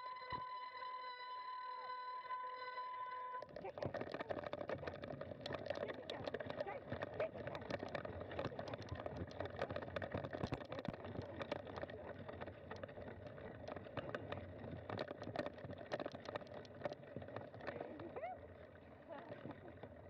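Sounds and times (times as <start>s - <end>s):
bicycle rattling on dirt trail: 0.0s - 20.0s.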